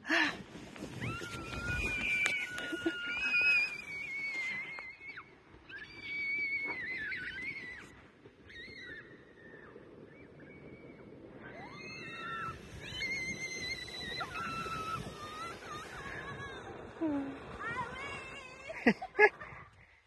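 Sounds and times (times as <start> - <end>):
distant whoops and squeals: 0.8 - 18.7.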